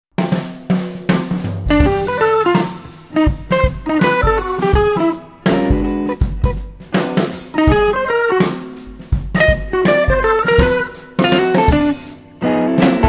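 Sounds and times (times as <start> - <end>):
drum kit beat: 0.1 - 13.0
plucked guitar: 1.1 - 13.0.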